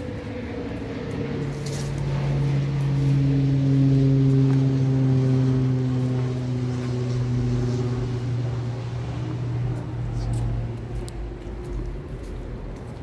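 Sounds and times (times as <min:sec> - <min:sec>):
passing engine hum: 0:00.0 - 0:13.0.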